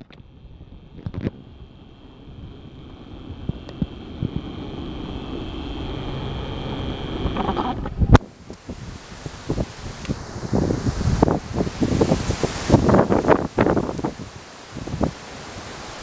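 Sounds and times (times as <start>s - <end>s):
strong wind gusting on microphone: 0.0s - 16.0s.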